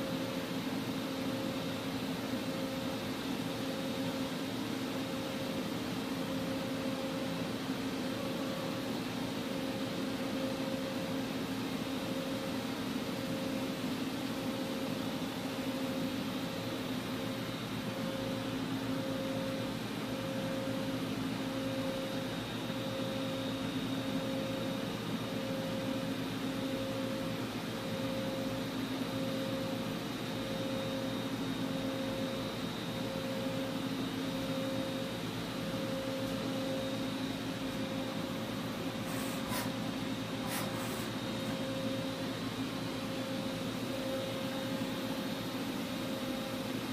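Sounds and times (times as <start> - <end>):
machine hum with high whine: 0.0 - 46.9.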